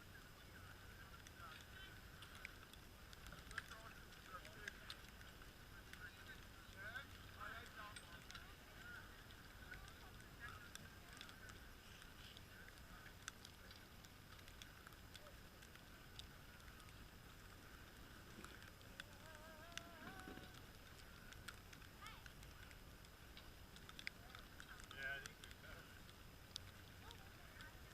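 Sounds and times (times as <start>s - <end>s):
small clicks and taps: 1.1s - 27.9s.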